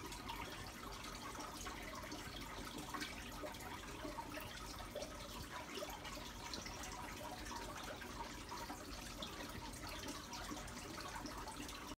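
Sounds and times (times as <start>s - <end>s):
water ticks and splashes: 0.0s - 11.9s.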